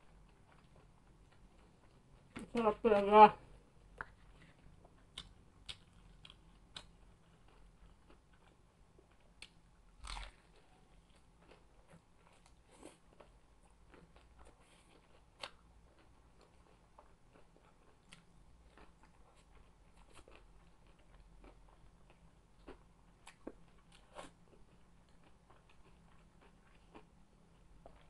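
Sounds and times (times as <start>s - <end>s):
crunching and chewing food: 0.0s - 2.6s, 3.4s - 28.0s.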